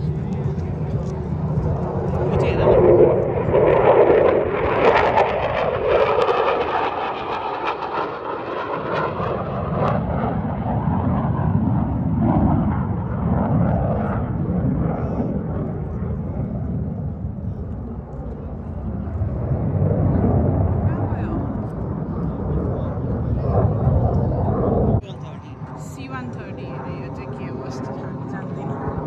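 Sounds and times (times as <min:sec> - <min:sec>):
aircraft engine rumble: 0:00.0 - 0:29.0.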